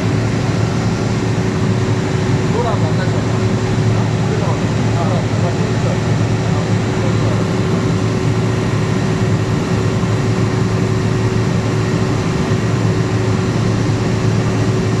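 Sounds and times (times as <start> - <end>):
diesel generator running: 0.0 - 15.0.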